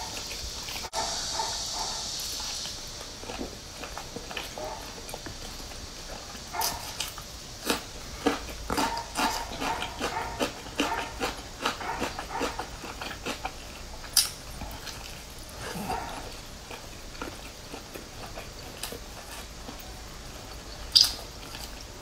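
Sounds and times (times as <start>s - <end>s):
chewing and lip-smacking: 0.0s - 19.9s, 20.5s - 22.0s.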